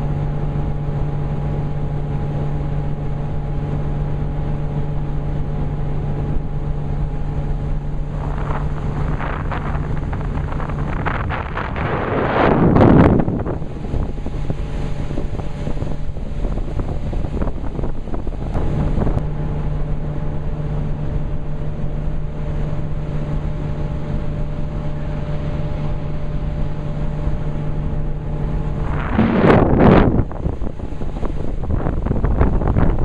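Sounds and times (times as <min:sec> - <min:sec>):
motorboat engine running: 0:00.0 - 0:33.0
wind on microphone: 0:00.0 - 0:33.0.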